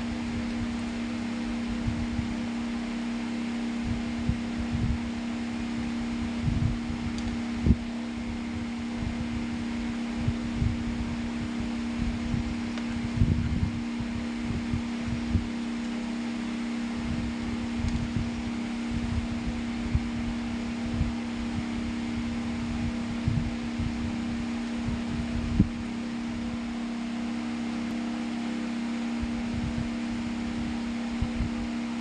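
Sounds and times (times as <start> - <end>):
air rushing from fan: 0.0 - 32.0
fan motor humming: 0.0 - 32.0.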